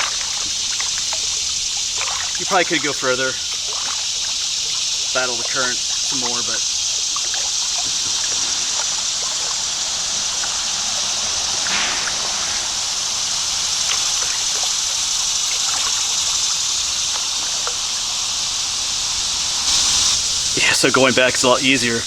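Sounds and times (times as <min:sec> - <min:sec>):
creek water rushing: 0:00.0 - 0:22.0
small water splashes: 0:00.0 - 0:22.0.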